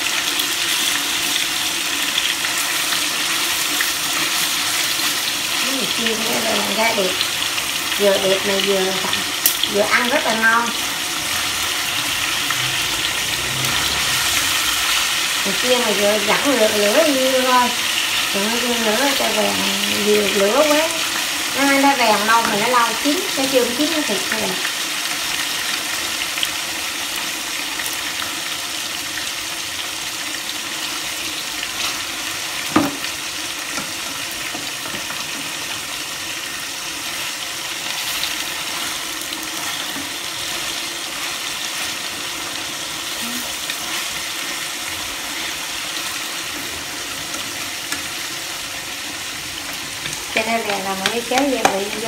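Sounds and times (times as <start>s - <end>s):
chicken sizzling in oil: 0.0s - 52.0s.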